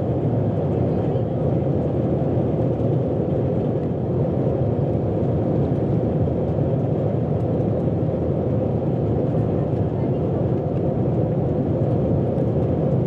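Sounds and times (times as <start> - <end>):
airplane cabin engine roar: 0.0 - 13.0.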